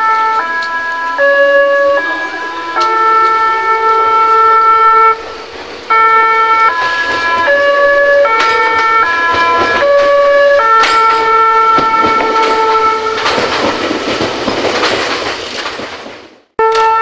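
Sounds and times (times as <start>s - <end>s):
train music horn melody: 0.0s - 13.7s, 16.6s - 17.0s.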